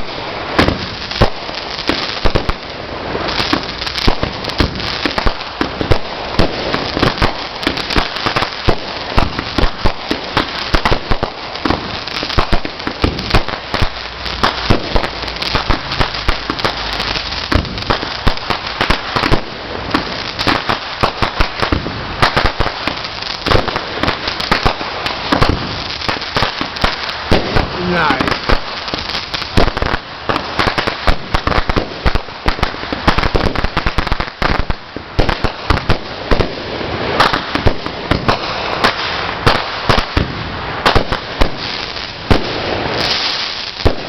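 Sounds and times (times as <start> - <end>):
firecrackers popping: 0.0 - 44.0.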